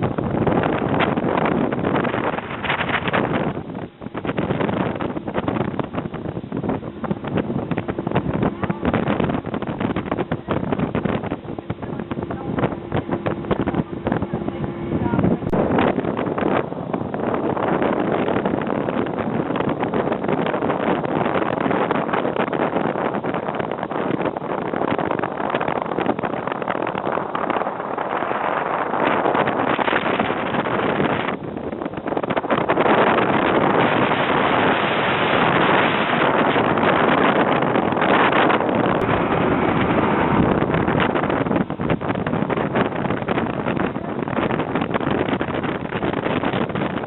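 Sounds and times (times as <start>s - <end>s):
boat motor humming: 0.0s - 47.0s
water noise: 0.0s - 47.0s
wind buffeting microphone: 0.0s - 47.0s.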